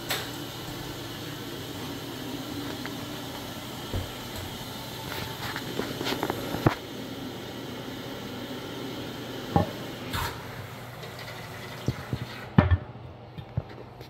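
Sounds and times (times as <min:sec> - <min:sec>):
steady hiss: 0:00.0 - 0:12.6.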